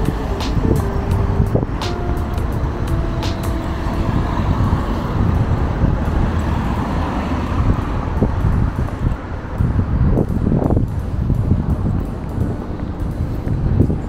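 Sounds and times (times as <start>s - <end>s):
street rumble: 0.0s - 14.0s.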